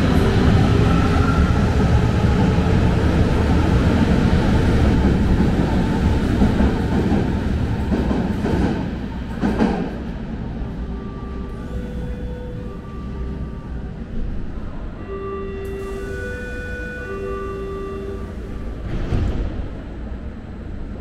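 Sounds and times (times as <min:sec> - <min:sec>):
electric train rumbling on rails: 0:00.0 - 0:21.0.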